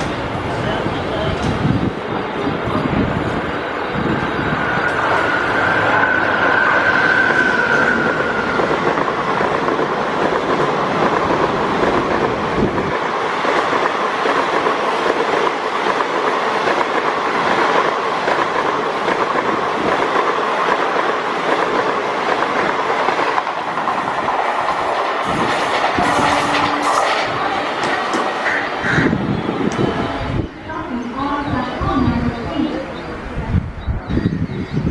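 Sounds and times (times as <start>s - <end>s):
train coaches rumbling past: 0.0s - 34.9s.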